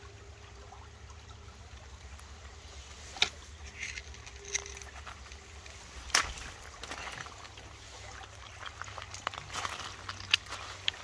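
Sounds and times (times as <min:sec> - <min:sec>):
stream flowing over gravel: 0:00.0 - 0:11.0.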